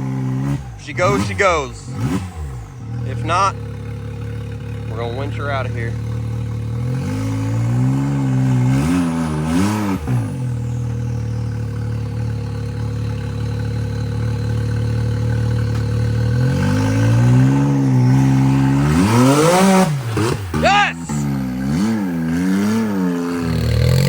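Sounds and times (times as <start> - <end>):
utility vehicle engine revving: 0.0 - 24.0.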